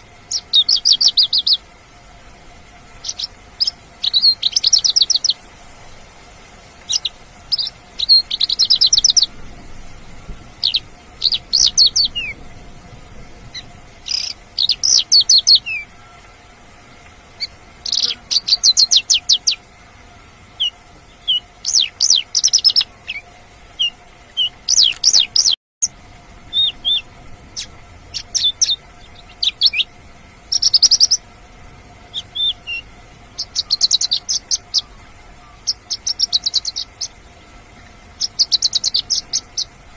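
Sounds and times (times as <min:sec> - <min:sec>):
lark singing trilled notes: 0:00.0 - 0:01.7, 0:02.9 - 0:06.0, 0:06.6 - 0:09.5, 0:10.5 - 0:19.7, 0:20.5 - 0:31.3, 0:32.0 - 0:37.3, 0:38.1 - 0:39.9
faint steady hum: 0:00.0 - 0:39.9.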